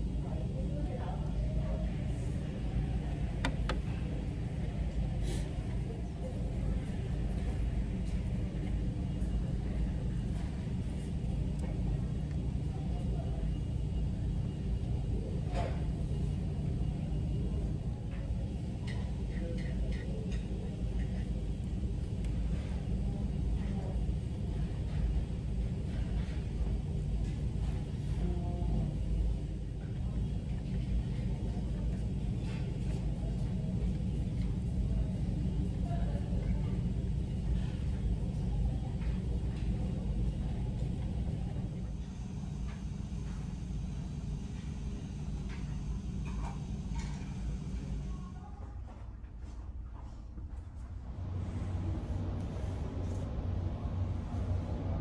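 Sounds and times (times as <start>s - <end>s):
ship engine drone: 0.0s - 48.5s.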